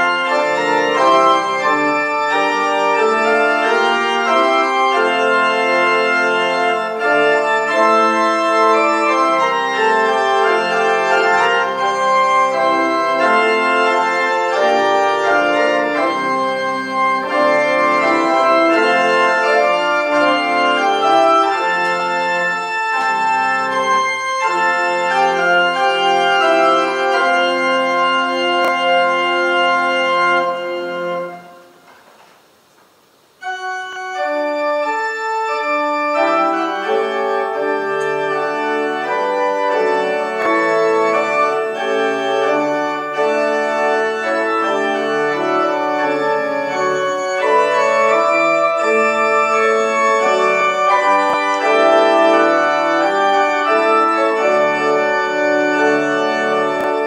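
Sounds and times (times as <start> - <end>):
church organ playing: 0.0 - 32.0, 33.1 - 57.0.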